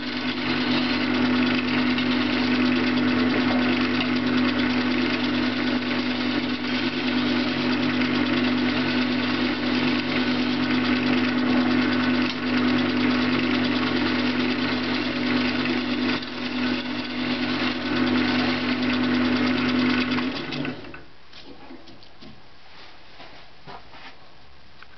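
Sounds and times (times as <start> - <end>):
gouge scraping wood: 0.0 - 20.2
wood lathe motor hum: 0.0 - 21.1.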